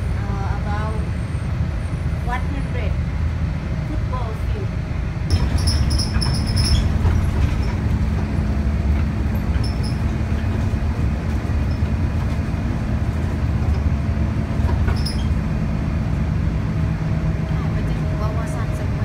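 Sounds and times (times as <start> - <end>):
bus engine and tyres rumbling: 0.0 - 19.0.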